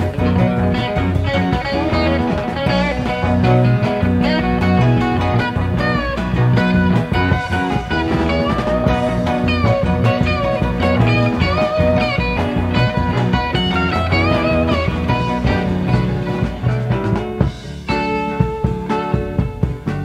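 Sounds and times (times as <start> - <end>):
bass line: 0.0 - 20.0
electric lead guitar bending notes: 0.0 - 20.0
steady drum beat: 0.0 - 20.0.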